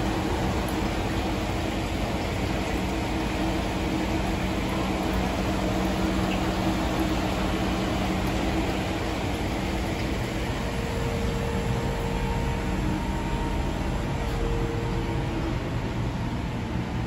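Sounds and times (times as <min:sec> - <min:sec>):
low steady hum: 0:00.0 - 0:17.0
ventilation fans rushing: 0:00.0 - 0:17.0.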